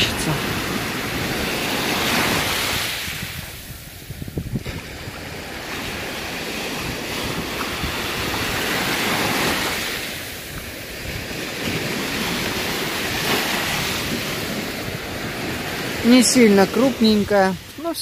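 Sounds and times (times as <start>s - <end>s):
sea surf on pebble beach: 0.0s - 18.0s.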